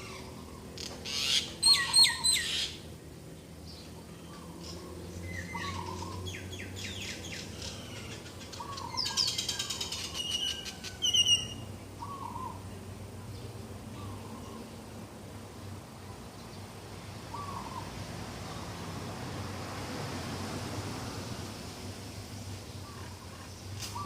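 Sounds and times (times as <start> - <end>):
birds chirping and trilling: 0.0 - 15.0, 15.6 - 18.9, 22.6 - 24.0.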